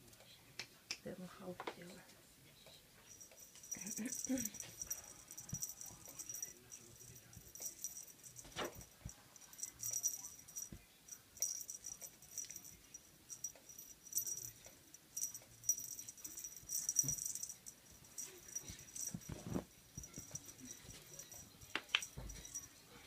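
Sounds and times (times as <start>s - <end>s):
cat toy jingling and rattling: 3.0s - 22.9s.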